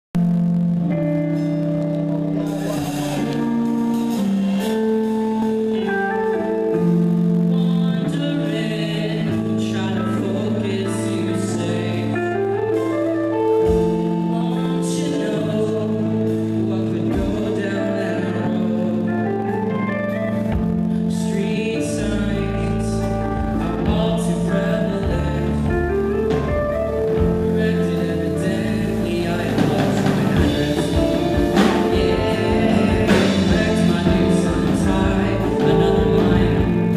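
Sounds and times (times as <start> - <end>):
drums: 0.0 - 36.9
low bass line: 0.0 - 36.9
electric guitar: 0.2 - 36.9.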